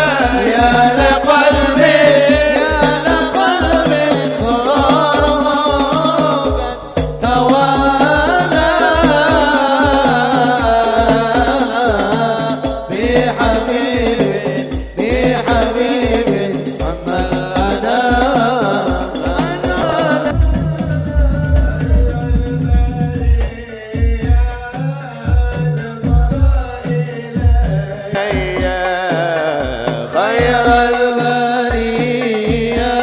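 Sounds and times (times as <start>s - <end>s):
hand drum beat: 0.0s - 33.0s
man singing into a microphone: 0.0s - 33.0s.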